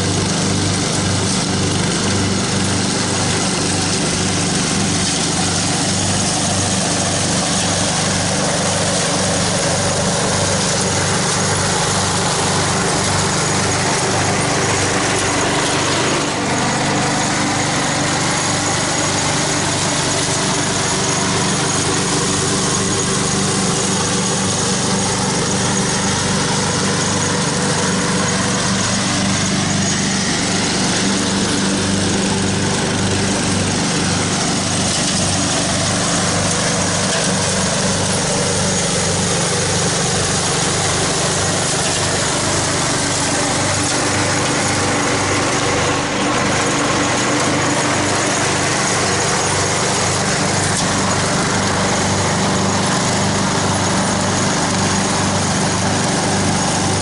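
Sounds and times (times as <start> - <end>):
riding lawn mower running: 0.0 - 57.0.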